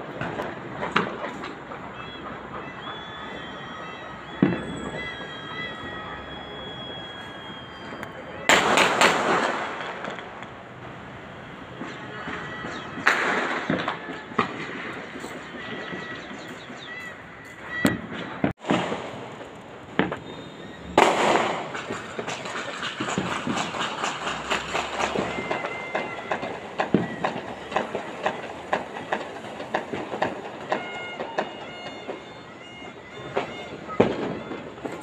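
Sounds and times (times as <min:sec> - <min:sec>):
firecrackers crackling pops: 0:00.0 - 0:35.0
fireworks bangs: 0:00.0 - 0:35.0.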